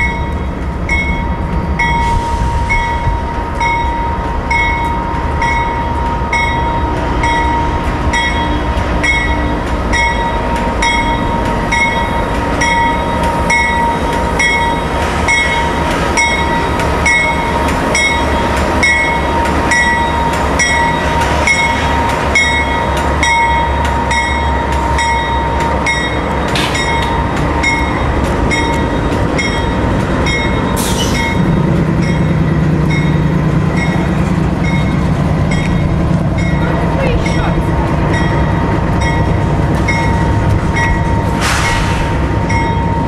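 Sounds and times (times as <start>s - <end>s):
locomotive bell ringing: 0.0s - 41.8s, 42.4s - 43.0s
diesel locomotive engines passing: 0.0s - 43.0s.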